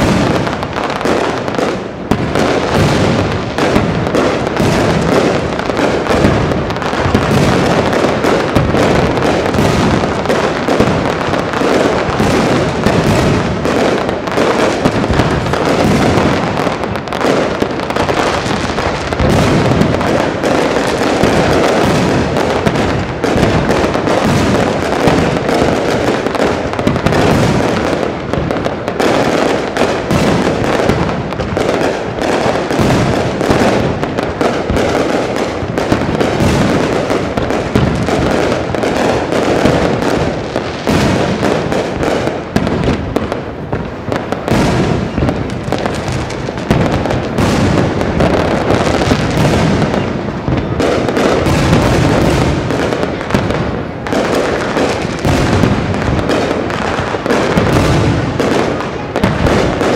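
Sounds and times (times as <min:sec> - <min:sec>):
fireworks bursts bangs and crackles: 0:00.0 - 0:59.9.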